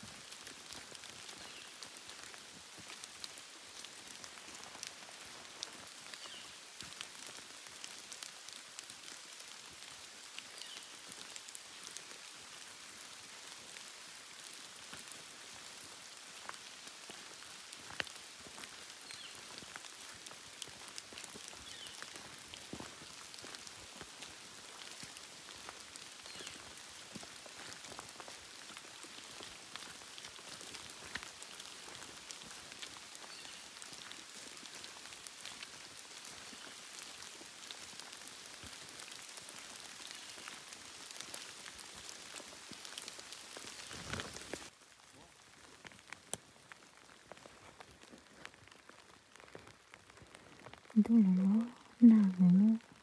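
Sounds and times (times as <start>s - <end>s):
pattering crackling noise: 0.2s - 12.4s, 13.6s - 51.0s.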